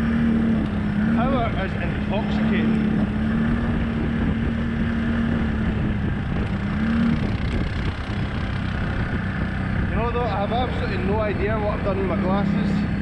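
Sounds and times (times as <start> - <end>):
wind on microphone: 0.0 - 11.9
atv engine running: 0.0 - 13.0.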